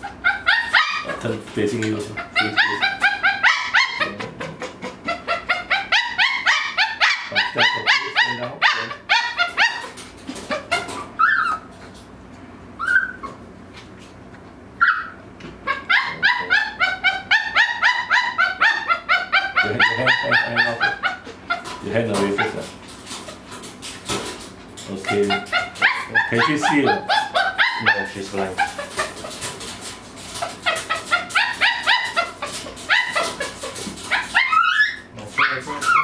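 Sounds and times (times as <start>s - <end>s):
dog yelping: 0.0s - 1.2s, 2.1s - 11.8s, 12.8s - 13.5s, 14.8s - 36.0s.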